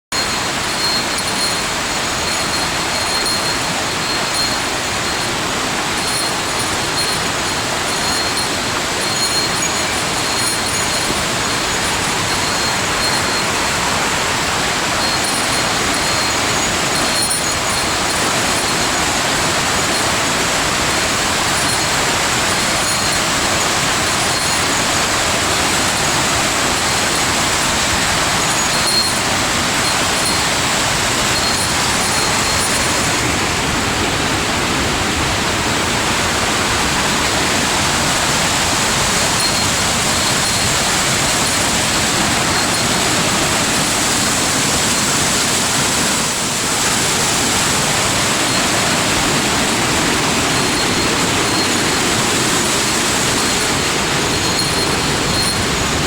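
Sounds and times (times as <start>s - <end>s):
mountain stream rushing: 0.0s - 56.0s.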